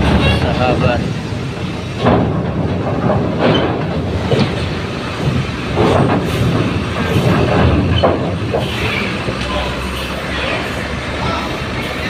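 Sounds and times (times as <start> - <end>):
bus engine and tyres rumbling: 0.0 - 12.0
wheels clanking on steel ramp: 0.0 - 12.0.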